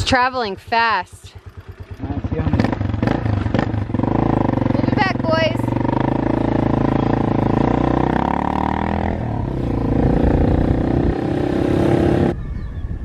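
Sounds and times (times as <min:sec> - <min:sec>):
quad bike engine running: 0:00.0 - 0:12.3.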